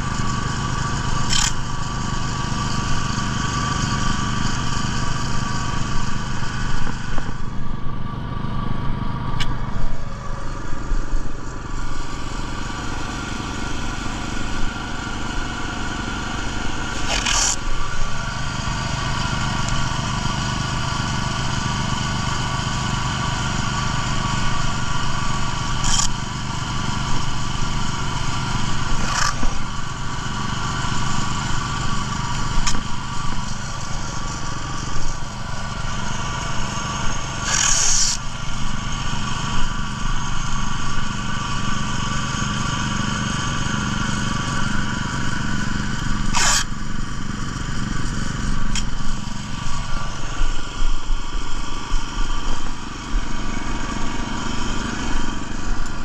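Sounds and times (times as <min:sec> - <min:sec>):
small gasoline engine idling: 0:00.0 - 0:56.0.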